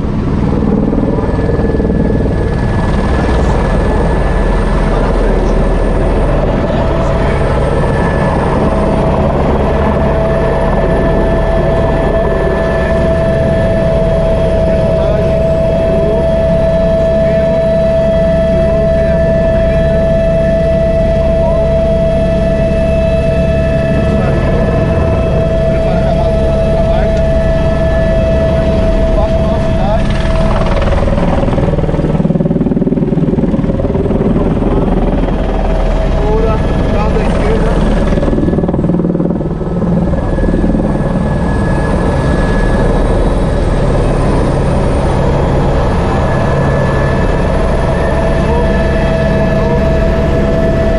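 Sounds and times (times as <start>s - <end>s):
constant whine: 0.0s - 50.9s
helicopter engine and rotor drone: 0.0s - 50.9s.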